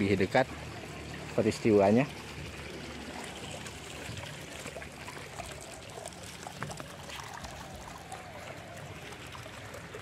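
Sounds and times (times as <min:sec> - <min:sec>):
pond water trickling and splashing: 0:00.0 - 0:10.0.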